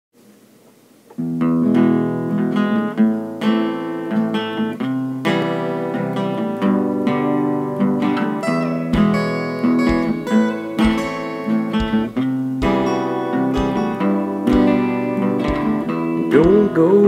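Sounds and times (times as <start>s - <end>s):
acoustic guitar playing: 1.1s - 17.0s.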